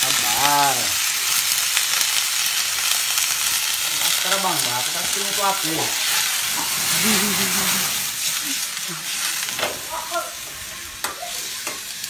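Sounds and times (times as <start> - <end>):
squid sizzling in a wok: 0.0 - 12.0.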